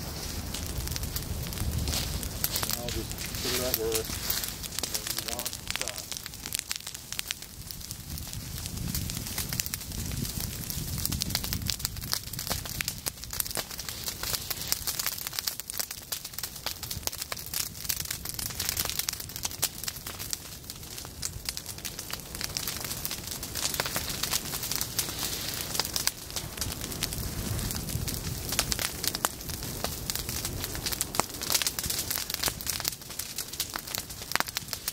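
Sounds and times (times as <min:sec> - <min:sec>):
fire crackling and popping: 0:00.0 - 0:34.9
low rumble of flames: 0:00.0 - 0:34.9.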